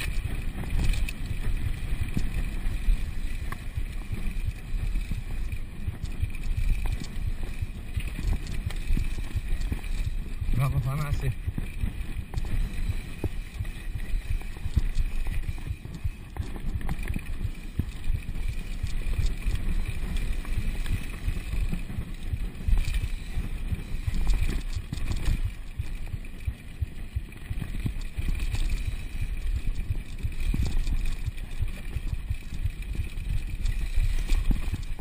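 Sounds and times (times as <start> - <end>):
bike rattling and knocking: 0.0 - 35.0
bike tyres rumbling on dirt: 0.0 - 35.0
wind buffeting microphone: 0.0 - 35.0.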